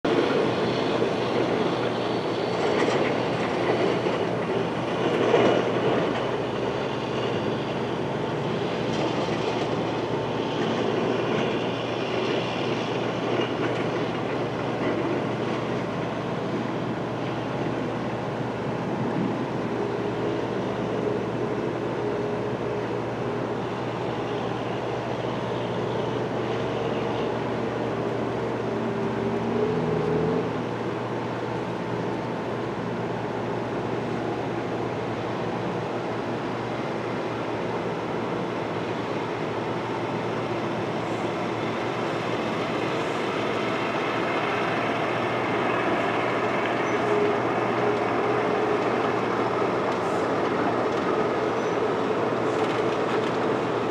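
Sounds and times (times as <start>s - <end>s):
train wheels rumbling on rails: 0.1s - 53.9s.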